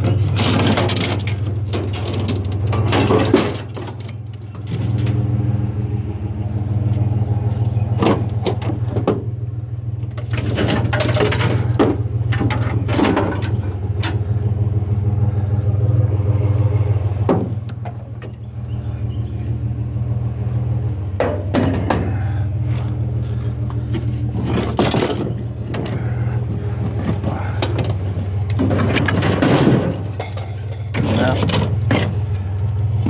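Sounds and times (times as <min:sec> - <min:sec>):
loose metal knocks and clatters: 0:00.0 - 0:05.6, 0:06.8 - 0:16.5, 0:17.1 - 0:33.0
truck engine running: 0:00.0 - 0:33.0.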